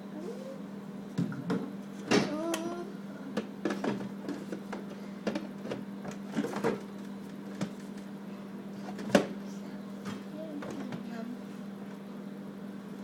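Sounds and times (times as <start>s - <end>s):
fridge humming: 0.0s - 13.0s.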